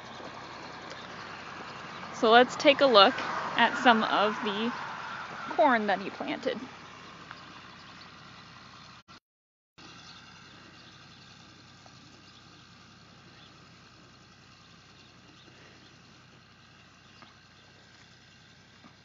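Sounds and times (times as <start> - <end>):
open field background noise: 0.0 - 9.1, 9.8 - 19.0.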